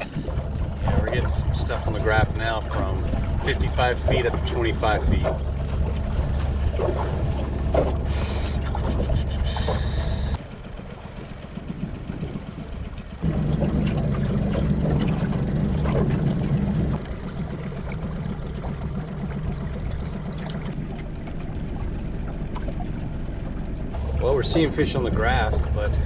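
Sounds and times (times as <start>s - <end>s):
boat motor hum: 0.0s - 26.0s
water lapping along hull: 0.0s - 26.0s.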